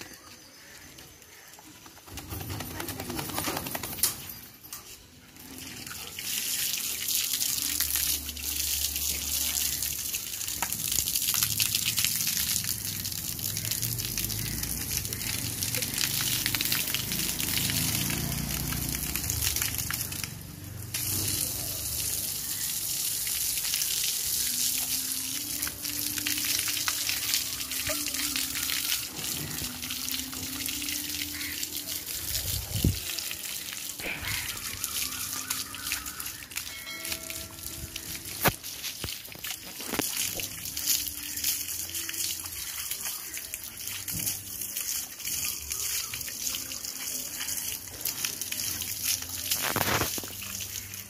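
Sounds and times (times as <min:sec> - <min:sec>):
garden hose spraying water: 0:00.0 - 0:51.0
water splashing on concrete: 0:00.0 - 0:51.0.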